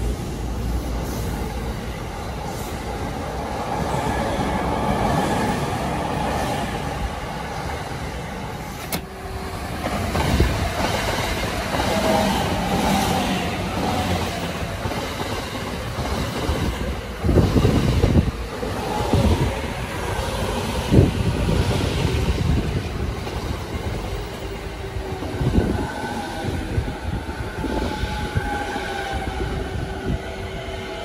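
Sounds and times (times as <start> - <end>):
electric trains running on rails: 0.0 - 31.0.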